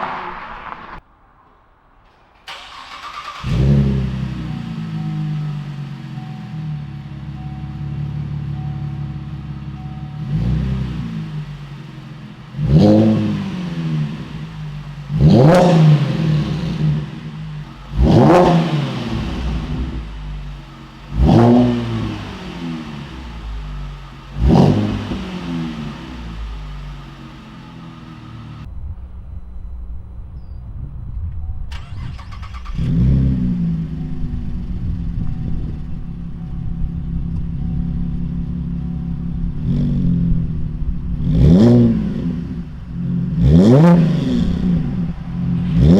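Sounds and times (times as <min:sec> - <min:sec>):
car engine idling: 0:00.0 - 0:45.9
car engine revving: 0:00.0 - 0:45.9.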